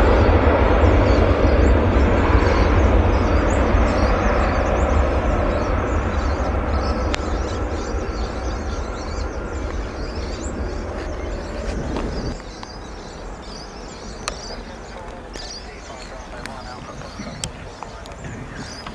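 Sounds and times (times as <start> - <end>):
jet engines rumbling: 0.0 - 18.9.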